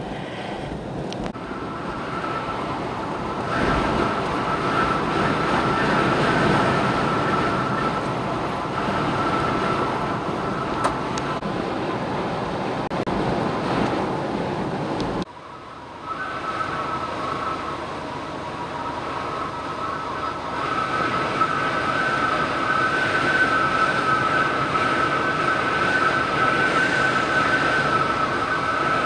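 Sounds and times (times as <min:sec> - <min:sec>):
high wind whistle: 0:00.0 - 0:29.0
wind roaring: 0:00.0 - 0:29.0.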